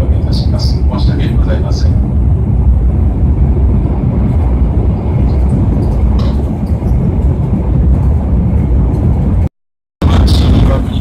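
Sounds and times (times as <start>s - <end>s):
train rumble from inside: 0.0s - 11.0s.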